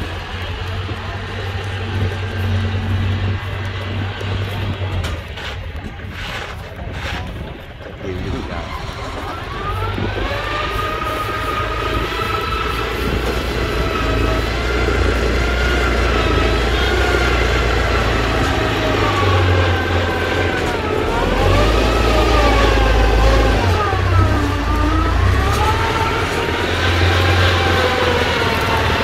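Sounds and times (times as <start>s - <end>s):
tractor engine running loudly: 0.0s - 29.0s.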